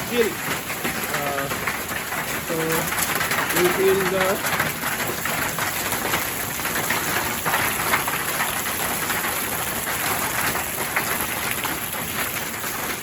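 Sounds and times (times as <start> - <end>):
hail falling: 0.0 - 13.0.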